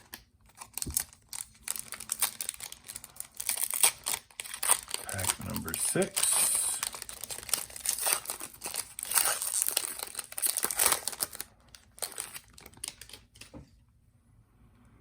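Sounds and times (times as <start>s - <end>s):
card pack wrapper tearing and crinkling: 0.0s - 13.5s.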